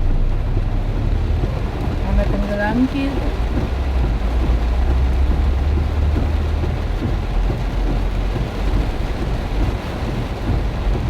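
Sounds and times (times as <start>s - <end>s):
deep low rumble: 0.0s - 11.0s
heavy rain pouring: 0.0s - 11.0s.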